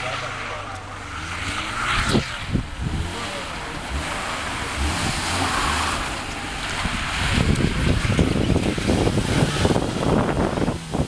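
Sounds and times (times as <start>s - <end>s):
tyres sliding on concrete: 0.0s - 10.6s
car engine revving: 0.0s - 11.0s.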